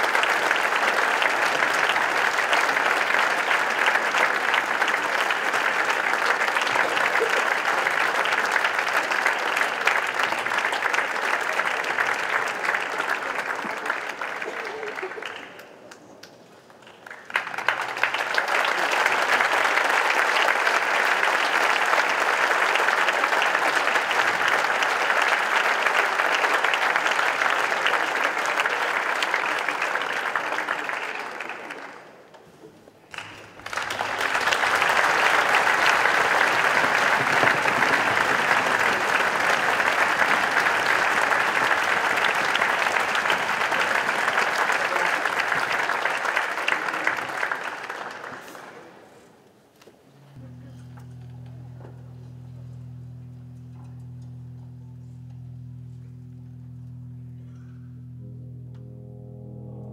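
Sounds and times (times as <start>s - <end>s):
audience applause: 0.0s - 32.3s, 33.1s - 49.2s, 50.2s - 58.9s.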